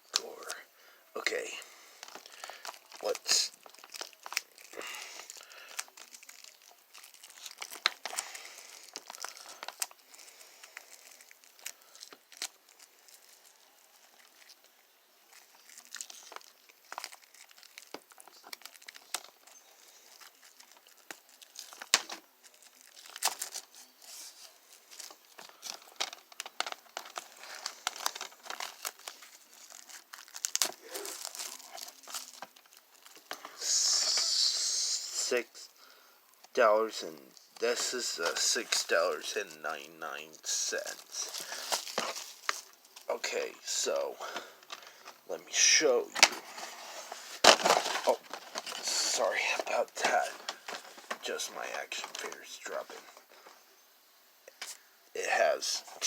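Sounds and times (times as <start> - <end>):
plastic wrap crinkling and snapping: 1.2 - 34.3, 40.2 - 53.6.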